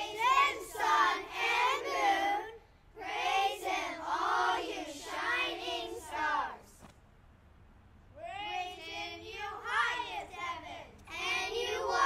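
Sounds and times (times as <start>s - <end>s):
children reciting in unison: 0.0s - 6.8s, 8.4s - 12.0s.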